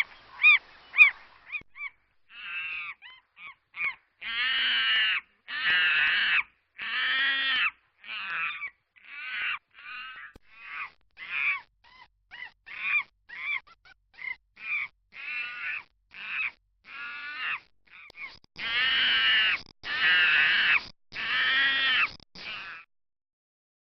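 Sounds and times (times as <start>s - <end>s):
monkeys chattering: 0.0s - 22.9s.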